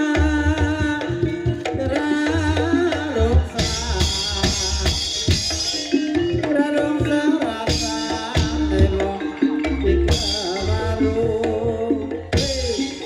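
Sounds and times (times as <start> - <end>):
gamelan melodic instruments: 0.0 - 13.0
hand drums beating: 0.0 - 13.0.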